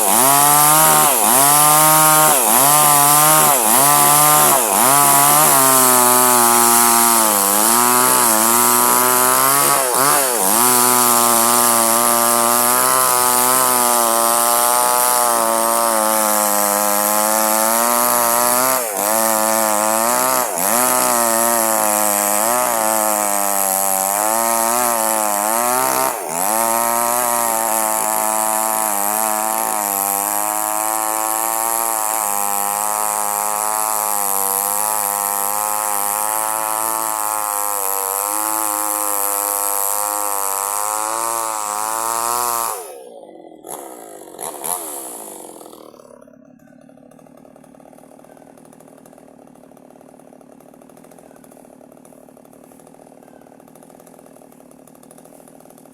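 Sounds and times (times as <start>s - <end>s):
chainsaw sawing wood: 0.0s - 55.9s.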